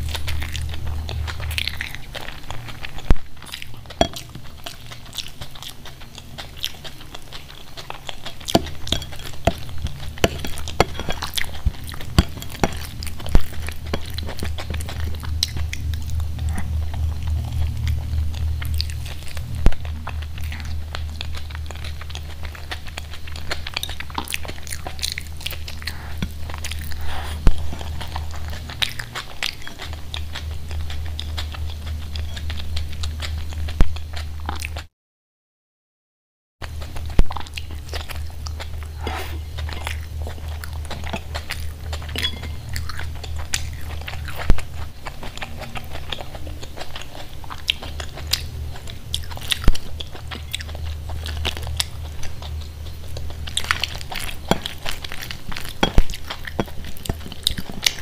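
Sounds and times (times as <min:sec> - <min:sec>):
chewing and mouth smacks: 0:00.0 - 0:34.9, 0:36.6 - 0:58.0
food crunch: 0:00.0 - 0:34.9, 0:36.6 - 0:58.0
steady low hum: 0:00.0 - 0:34.9, 0:36.6 - 0:58.0.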